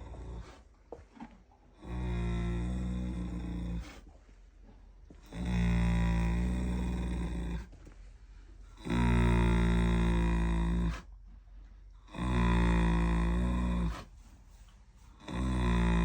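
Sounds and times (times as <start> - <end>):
horse snoring: 0.0 - 4.2, 5.1 - 7.9, 8.6 - 16.0.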